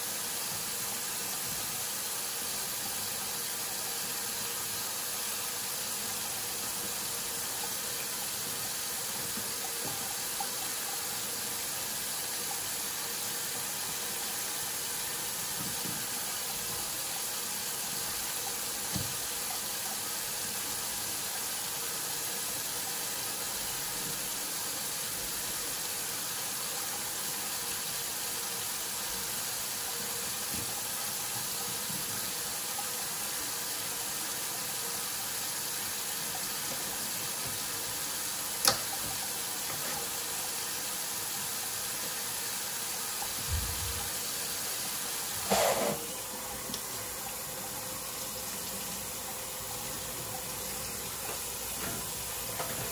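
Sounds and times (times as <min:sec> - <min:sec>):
faucet running into metal sink: 0:00.0 - 0:52.9.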